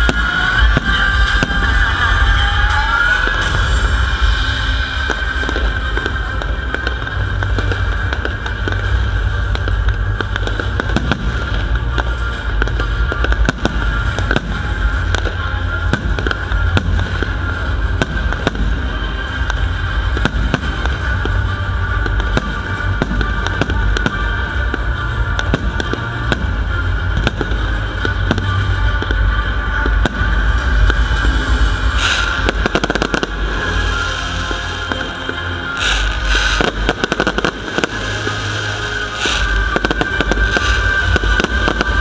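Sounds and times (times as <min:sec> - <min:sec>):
crackling hiss: 0:00.0 - 0:42.0
firework bangs and booms: 0:00.0 - 0:42.0
heavy low rumble: 0:00.0 - 0:42.0.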